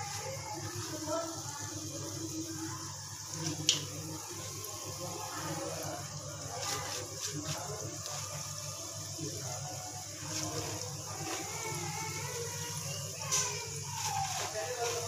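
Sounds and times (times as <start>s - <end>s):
frying in hot oil sizzle: 0.0s - 15.0s.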